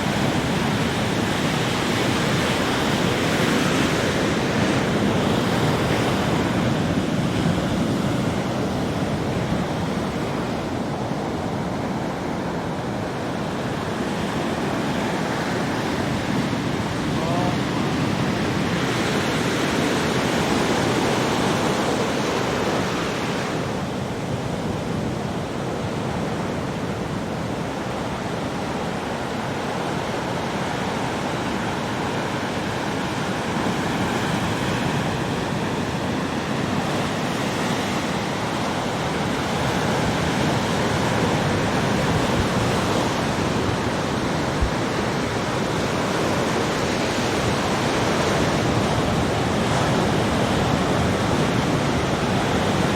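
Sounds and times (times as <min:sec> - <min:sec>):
ocean waves breaking on beach: 0:00.0 - 0:52.9.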